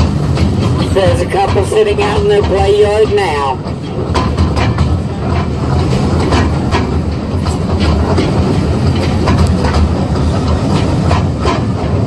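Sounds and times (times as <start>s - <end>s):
train rumble: 0.0s - 12.0s
wheels clicking on rails: 0.0s - 12.0s.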